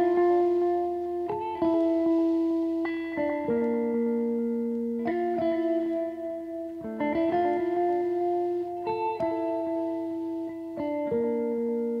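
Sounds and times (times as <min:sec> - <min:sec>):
sustained guitar chords: 0:00.0 - 0:12.0.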